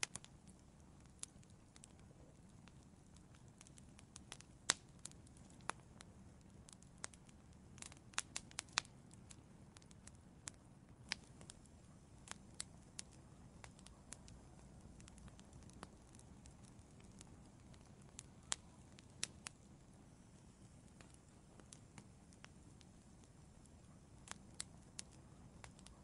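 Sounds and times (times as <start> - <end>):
low rumble of burning: 0.0 - 26.0
wood fire crackling and popping: 0.0 - 26.0.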